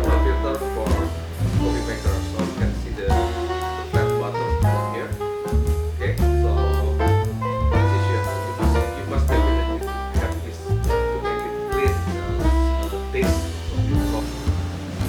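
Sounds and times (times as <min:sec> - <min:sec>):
jazz music: 0:00.0 - 0:15.0.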